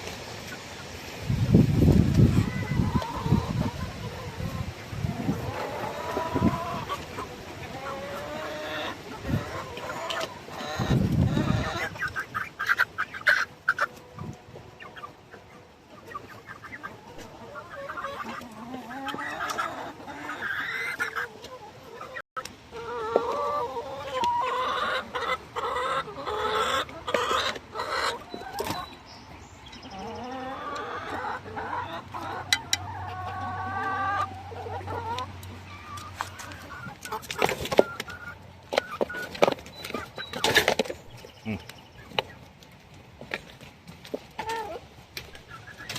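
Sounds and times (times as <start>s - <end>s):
chickens clucking and squawking: 0.0s - 45.9s.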